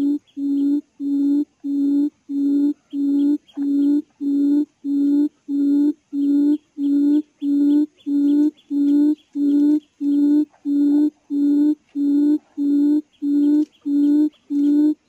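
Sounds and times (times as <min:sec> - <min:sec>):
quail call hooting: 0:00.0 - 0:15.0.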